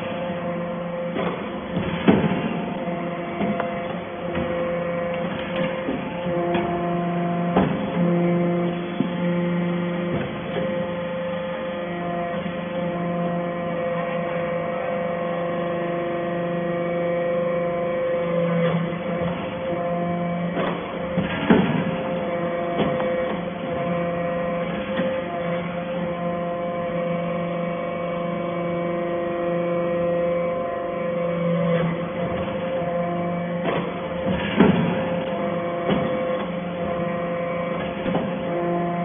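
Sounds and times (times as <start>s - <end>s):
hydraulic press humming: 0.0s - 39.0s.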